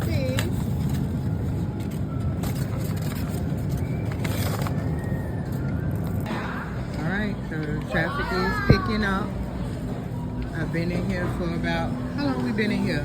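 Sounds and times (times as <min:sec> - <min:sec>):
supermarket background rumble: 0:00.0 - 0:13.0.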